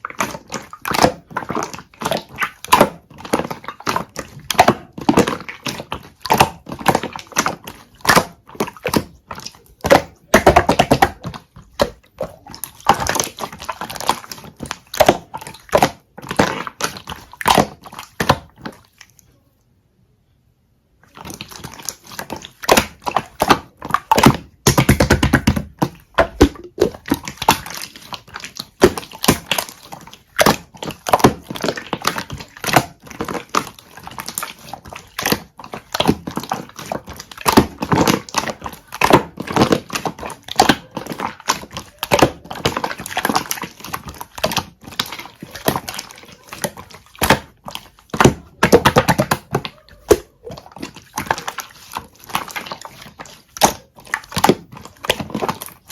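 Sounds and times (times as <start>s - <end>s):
hands squishing sticky slime: 0.0s - 19.4s, 21.0s - 55.9s
slime squelches: 0.0s - 55.9s.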